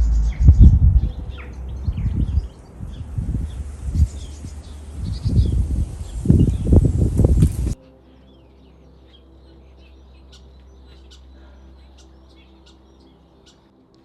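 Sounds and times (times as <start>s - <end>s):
faint low hum: 0.0s - 14.0s
small birds chirping: 0.0s - 14.0s.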